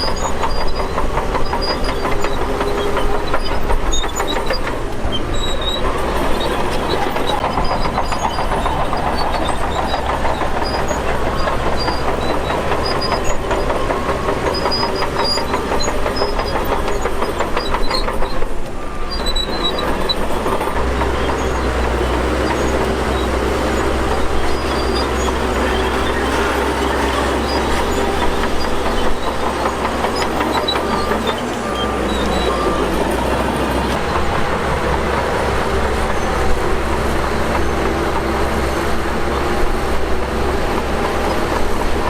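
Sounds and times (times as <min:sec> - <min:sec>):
bulldozer engine under load: 0:00.0 - 0:42.0
metallic clatter of crawler tracks: 0:00.0 - 0:42.0.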